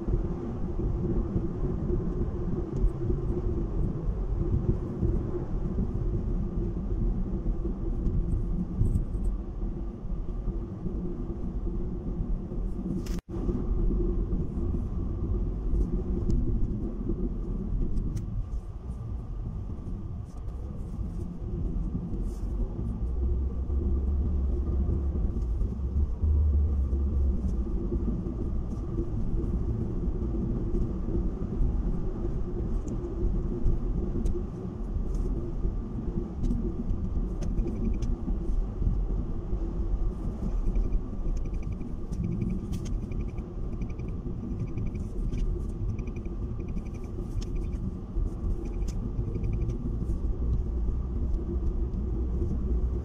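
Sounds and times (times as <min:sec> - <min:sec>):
car tyre and engine rumble: 0:00.0 - 0:53.0
faint steady hum: 0:00.0 - 0:53.0.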